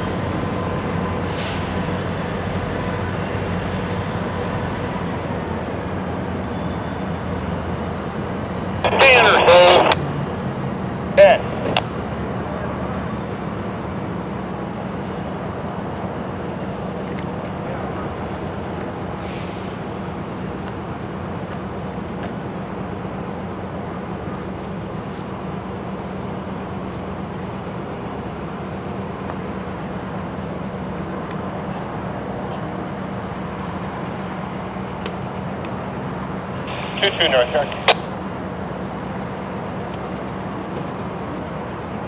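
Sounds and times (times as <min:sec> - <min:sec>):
diesel locomotive engine humming: 0:00.0 - 0:42.0.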